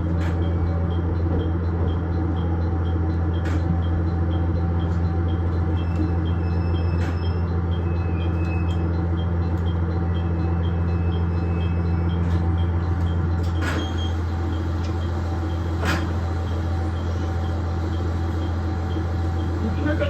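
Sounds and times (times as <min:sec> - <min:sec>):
diesel engine drone: 0:00.0 - 0:20.0
train track noise: 0:00.0 - 0:20.0.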